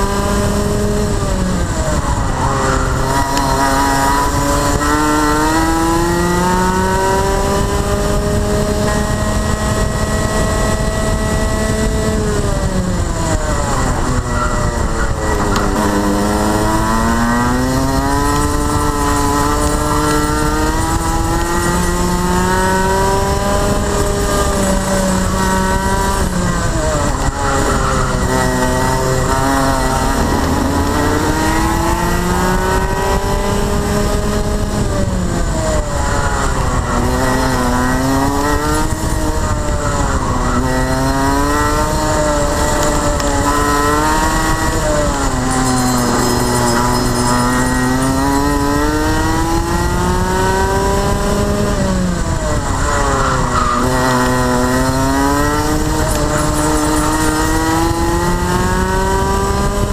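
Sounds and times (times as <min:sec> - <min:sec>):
kart engine accelerating and slowing: 0:00.0 - 0:59.9.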